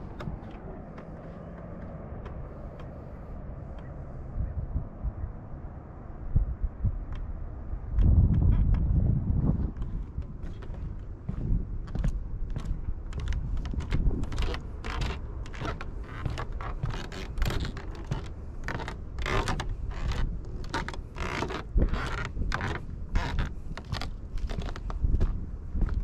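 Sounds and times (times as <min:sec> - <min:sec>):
footsteps on wooden boardwalk: 0:00.0 - 0:04.1, 0:06.9 - 0:26.0
wind rumbling on microphone: 0:00.0 - 0:26.0.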